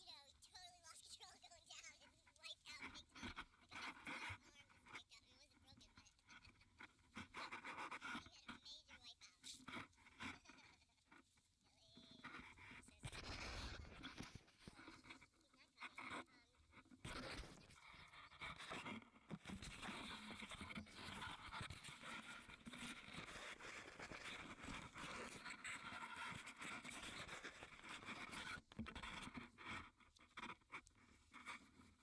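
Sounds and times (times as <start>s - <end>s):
rustling and scratching handling noise: 2.8s - 32.0s.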